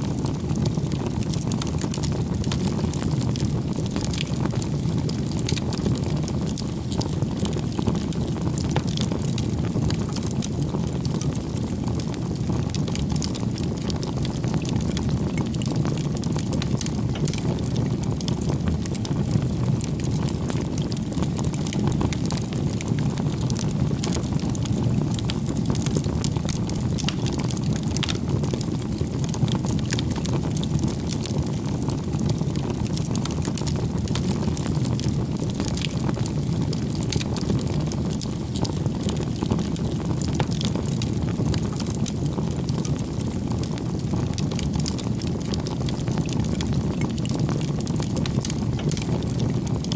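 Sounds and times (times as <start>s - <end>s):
wood fire crackling and popping: 0.0s - 49.9s
rush of fire flames: 0.1s - 49.9s.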